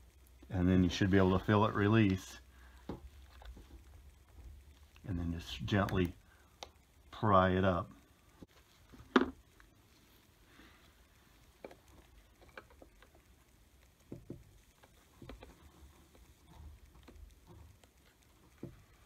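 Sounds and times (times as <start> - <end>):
gloves rustling: 0.0 - 19.0.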